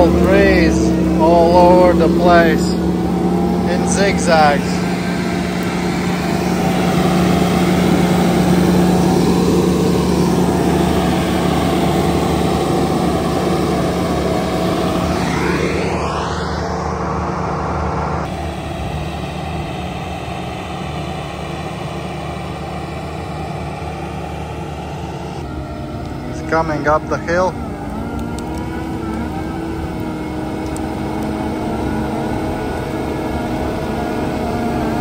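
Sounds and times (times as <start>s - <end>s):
loader engine drone: 0.0s - 35.0s
rising whine: 0.0s - 35.0s.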